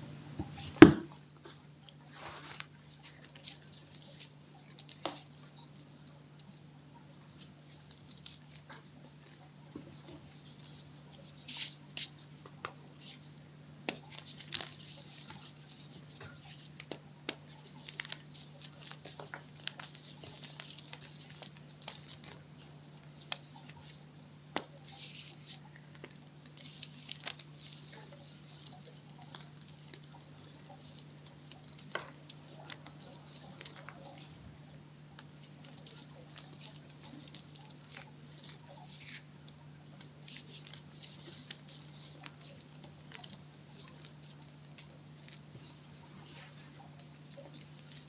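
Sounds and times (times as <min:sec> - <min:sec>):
steady low hum: 0:00.0 - 0:48.0
chalk crunching and crackling: 0:00.6 - 0:48.0.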